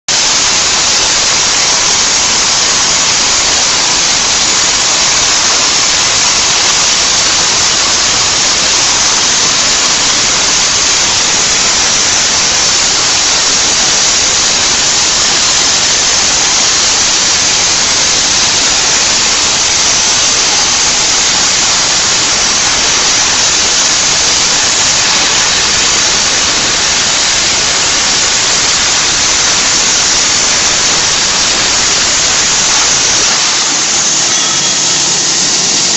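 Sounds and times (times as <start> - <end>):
cutting machine steady hiss: 0.0 - 35.9.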